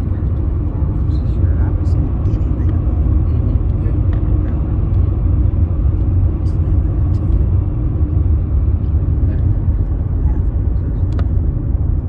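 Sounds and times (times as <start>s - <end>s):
car rumble heard from inside: 0.0s - 12.0s.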